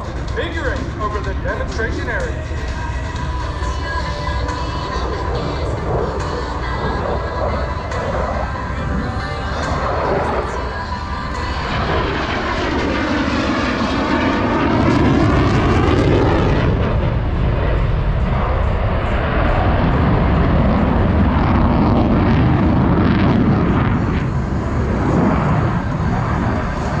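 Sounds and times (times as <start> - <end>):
fighter jet roaring past: 0.0 - 27.0.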